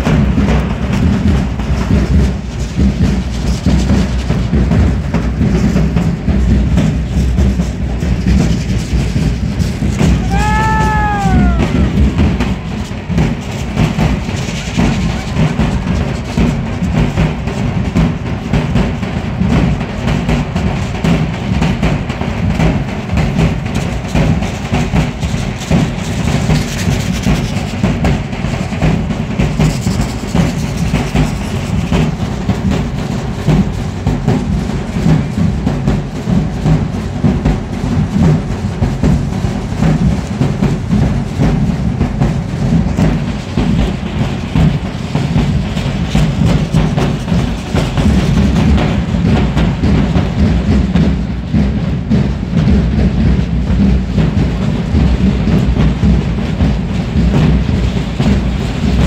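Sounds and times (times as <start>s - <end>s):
bass drums beating: 0.0s - 59.0s.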